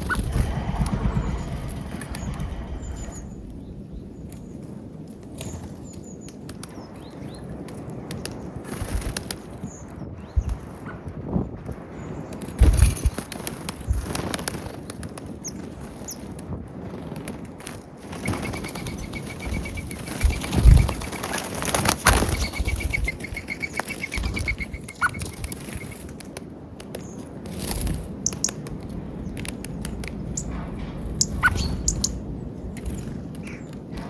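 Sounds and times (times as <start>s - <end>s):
birds flapping wings: 0.0s - 10.8s, 12.2s - 34.0s.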